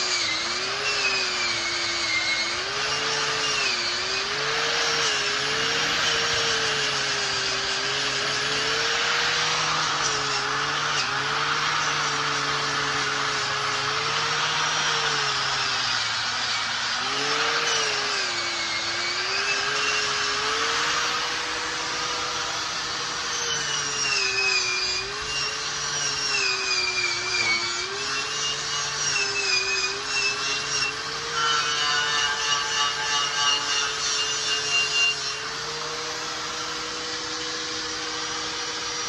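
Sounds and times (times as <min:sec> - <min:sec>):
grinder motor with wire wheel: 0:00.0 - 0:39.0.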